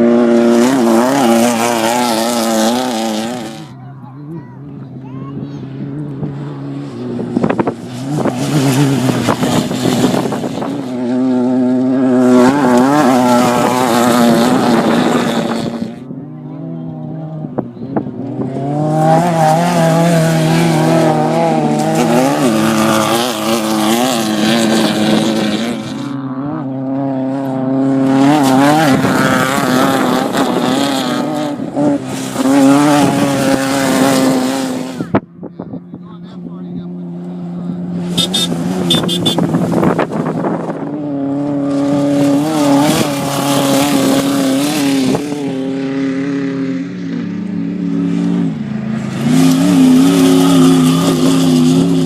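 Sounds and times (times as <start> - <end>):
off-road vehicles passing at speed: 0.0 - 52.0.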